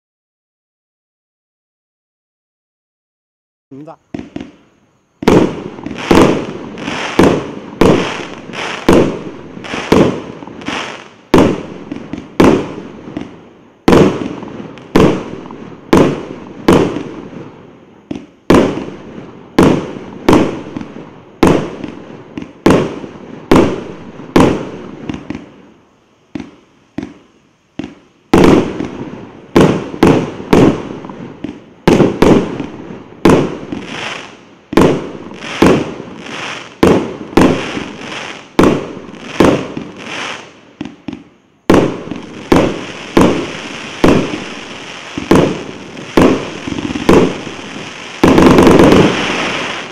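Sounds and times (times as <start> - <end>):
fireworks bangs: 3.7 - 25.7, 26.3 - 49.9.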